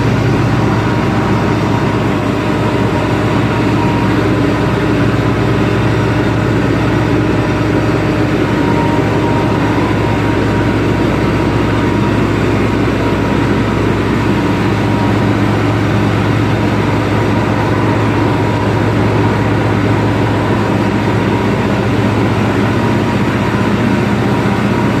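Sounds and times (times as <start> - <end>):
faint steady whine: 0.0 - 25.0
heavy diesel engine drone: 0.0 - 25.0.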